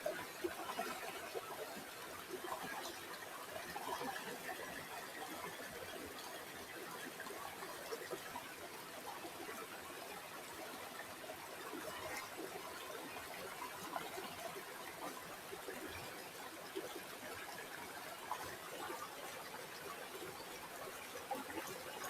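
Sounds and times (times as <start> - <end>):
river water trickling: 0.0 - 22.0.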